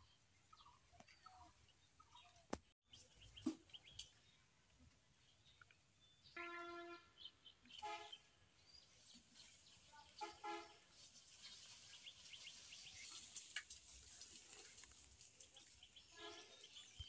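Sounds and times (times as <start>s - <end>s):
faint outdoor background: 0.0s - 17.0s.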